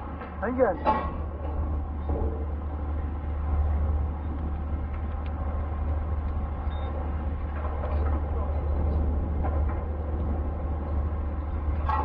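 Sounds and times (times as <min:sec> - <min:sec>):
wind buffeting microphone: 0:01.0 - 0:12.0.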